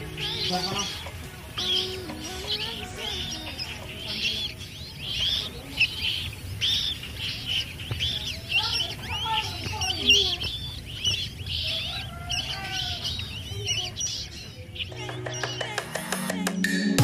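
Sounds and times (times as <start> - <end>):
rail chick peeping: 0.0 - 16.4.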